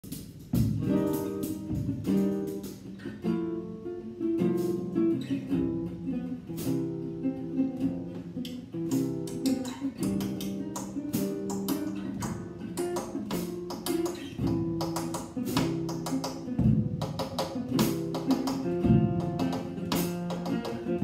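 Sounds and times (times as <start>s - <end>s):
acoustic guitar strumming chords: 0.1s - 21.0s.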